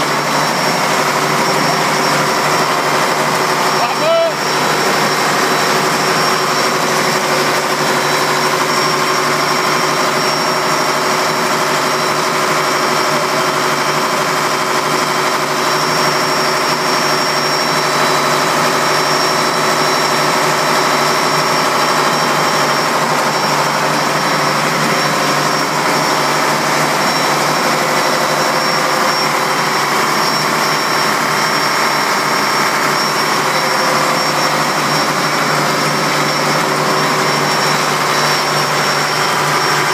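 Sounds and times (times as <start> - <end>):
marine diesel engine running: 0.0 - 39.9.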